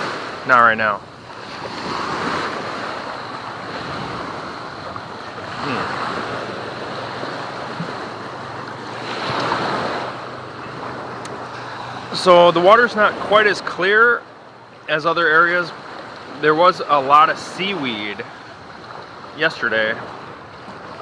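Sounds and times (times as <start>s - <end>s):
ocean surf washing in: 0.0s - 21.0s.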